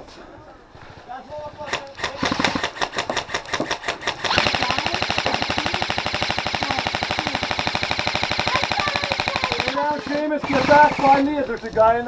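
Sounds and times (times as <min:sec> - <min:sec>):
airsoft gun firing: 0:01.7 - 0:11.7.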